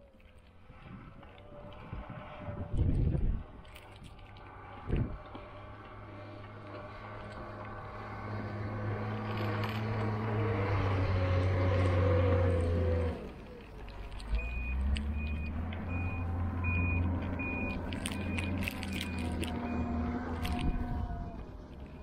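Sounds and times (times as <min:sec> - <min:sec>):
cable car hum and rumble: 0:00.0 - 0:22.0.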